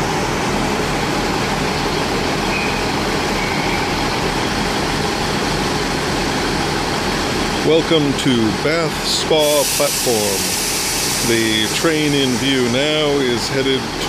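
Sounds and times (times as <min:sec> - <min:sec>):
diesel train engine idling: 0:00.0 - 0:14.0.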